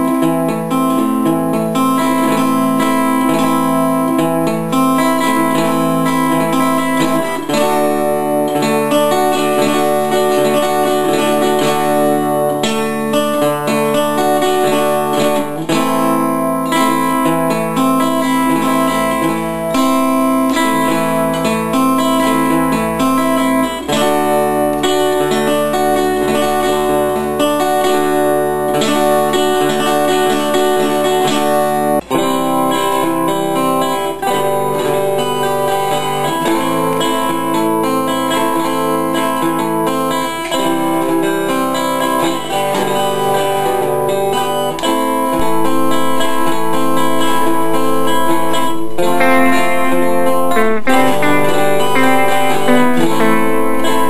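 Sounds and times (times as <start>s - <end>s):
background guitar riffs: 0.0s - 54.0s
strummed guitar: 0.0s - 54.0s.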